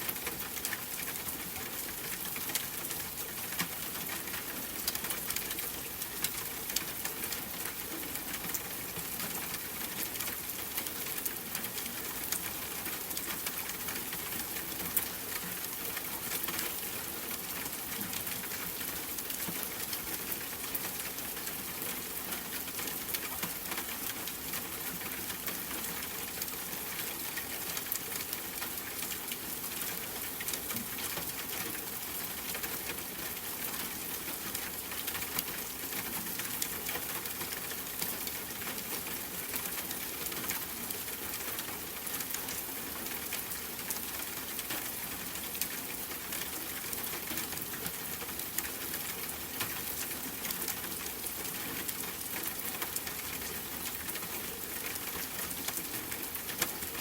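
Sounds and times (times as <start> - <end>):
rain patter: 0.0 - 57.0.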